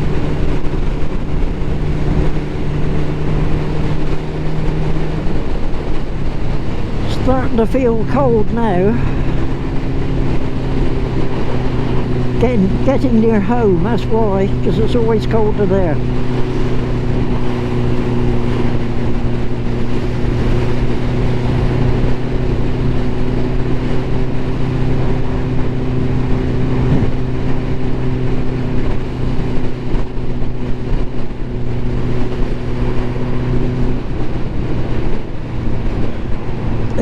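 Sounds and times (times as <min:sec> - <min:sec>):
motorcycle engine cruising: 0:00.0 - 0:37.0
road and wind noise: 0:00.0 - 0:37.0.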